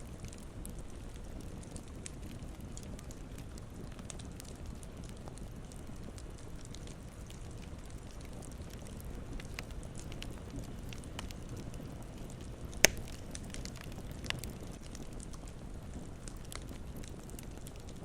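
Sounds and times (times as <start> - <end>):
burning wood popping: 0.0 - 18.0
campfire burning and crackling: 0.0 - 18.0.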